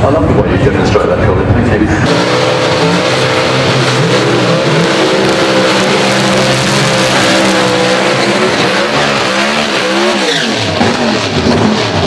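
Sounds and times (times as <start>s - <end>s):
drag car engines running: 0.0s - 12.0s.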